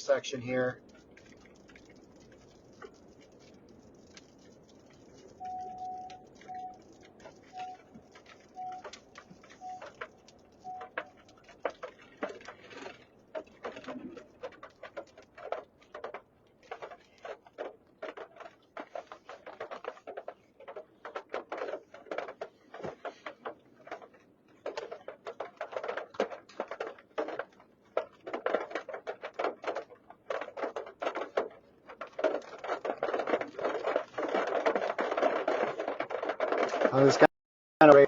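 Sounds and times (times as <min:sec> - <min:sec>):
rain pattering on vehicle roof: 0:00.0 - 0:38.0.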